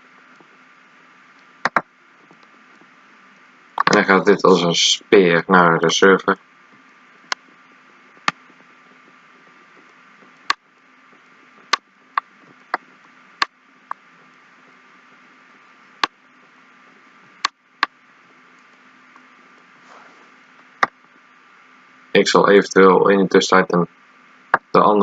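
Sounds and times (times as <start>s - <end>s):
microphone hiss and hum: 0.0s - 25.0s.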